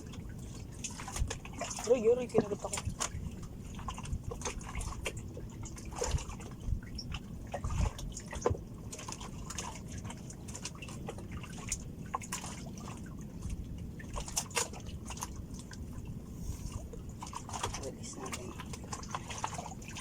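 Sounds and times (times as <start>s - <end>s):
water lapping against a boat: 0.0s - 20.0s.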